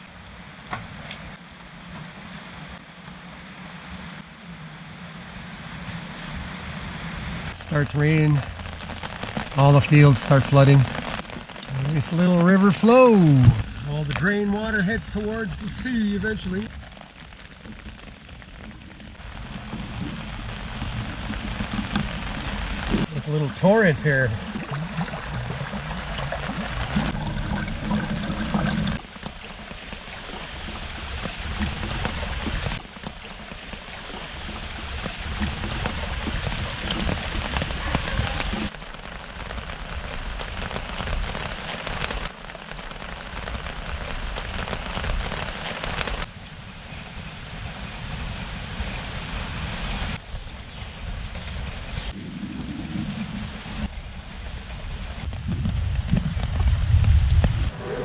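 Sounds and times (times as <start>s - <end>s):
runoff rushing along drain: 0.0s - 57.6s
steady rain falling: 0.0s - 58.0s.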